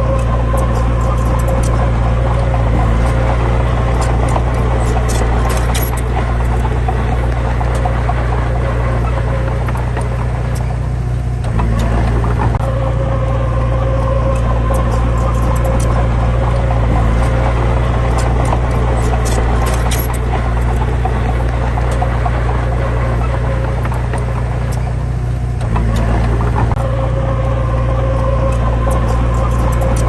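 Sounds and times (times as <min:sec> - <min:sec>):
metallic clicks and rattles: 0:00.0 - 0:12.7, 0:14.3 - 0:26.9, 0:28.5 - 0:30.0
diesel engine running: 0:00.0 - 0:30.0.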